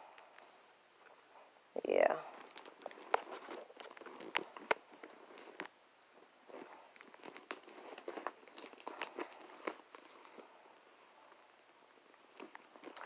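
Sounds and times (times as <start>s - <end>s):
leather rustling: 2.2s - 13.0s.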